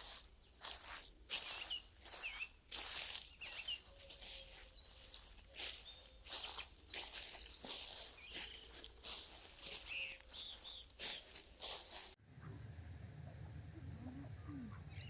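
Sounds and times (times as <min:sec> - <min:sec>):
bird chirps and trill: 0:00.0 - 0:12.2
footsteps crunching on forest path: 0:00.0 - 0:12.2.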